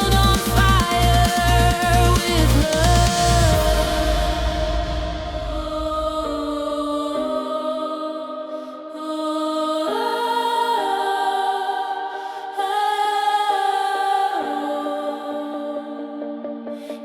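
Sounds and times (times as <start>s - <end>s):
electronic music with choir chords: 0.0s - 17.0s.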